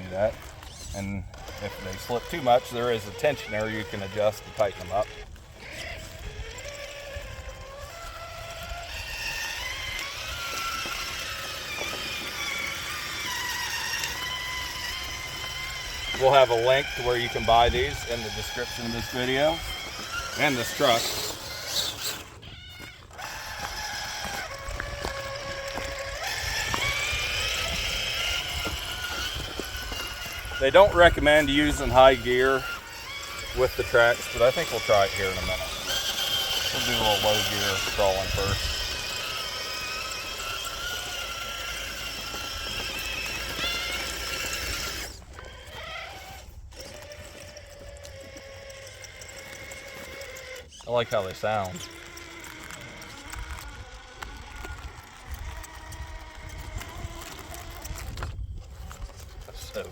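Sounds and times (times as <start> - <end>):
rc car electric motor whine: 0.0 - 59.9.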